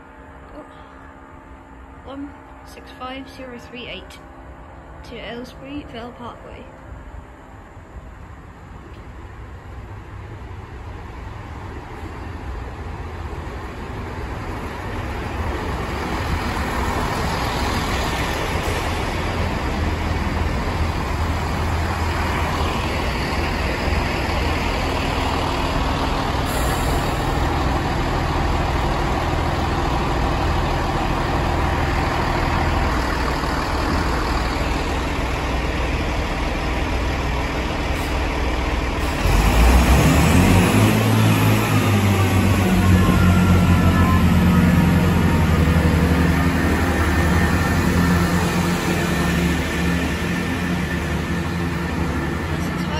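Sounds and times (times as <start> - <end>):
diesel train engines droning: 0.0 - 52.9
train engines revving: 0.0 - 52.9.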